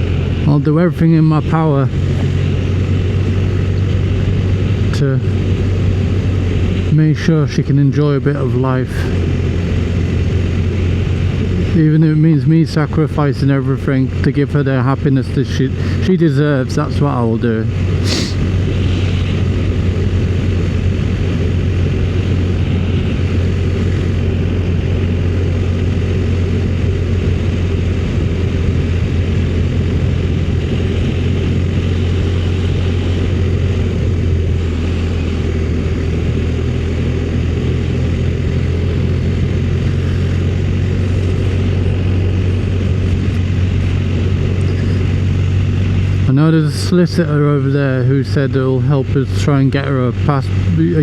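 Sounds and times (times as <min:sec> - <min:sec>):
motorcycle engine cruising: 0:00.0 - 0:51.0
wind and road noise: 0:00.0 - 0:51.0.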